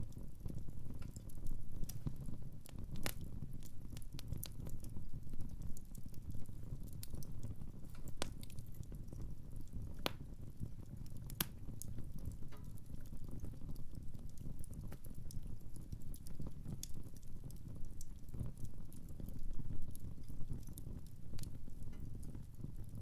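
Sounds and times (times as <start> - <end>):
fire crackling and popping: 0.0 - 23.0
fire flames rumbling: 0.0 - 23.0.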